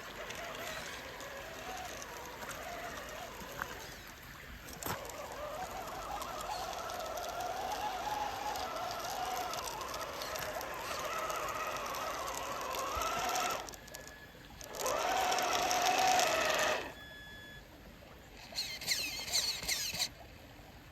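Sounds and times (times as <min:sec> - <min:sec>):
electric motor whining: 0:00.0 - 0:17.5, 0:18.5 - 0:20.1.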